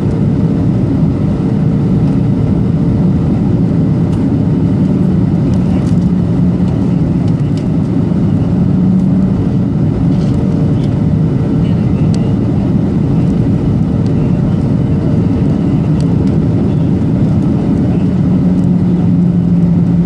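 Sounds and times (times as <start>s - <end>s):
jet engine rumble in cabin: 0.0s - 20.0s.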